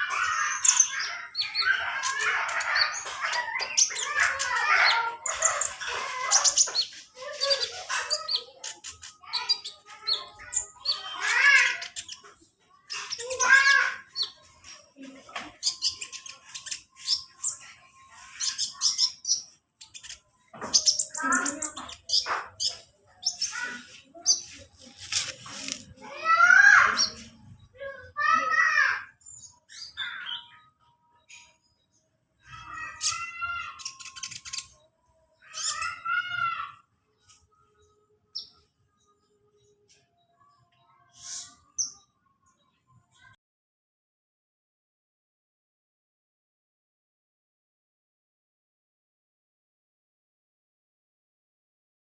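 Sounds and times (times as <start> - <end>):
bird singing high chirps and trills: 0.0 - 43.4.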